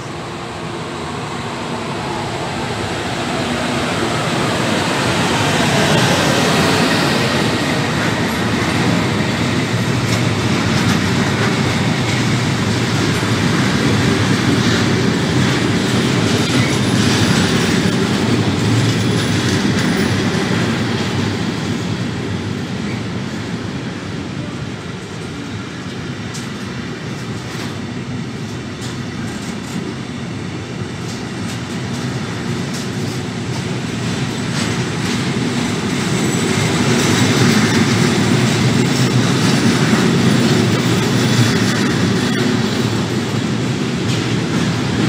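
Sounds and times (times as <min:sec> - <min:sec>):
electric locomotive passing: 0:00.0 - 0:45.0
train wheels clicking over rail joints: 0:03.6 - 0:23.1, 0:25.1 - 0:45.0.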